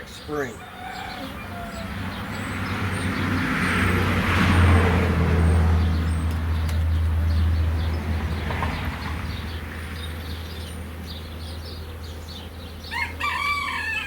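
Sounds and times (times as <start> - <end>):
vehicle passing by: 0.9 - 12.2.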